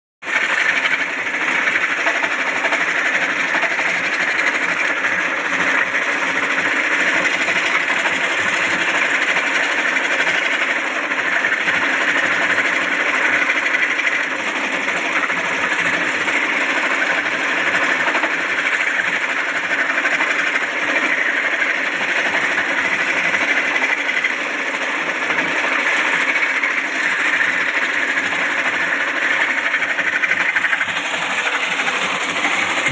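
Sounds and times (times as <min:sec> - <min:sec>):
embroidery machine stitching clatter: 0:00.3 - 0:32.9.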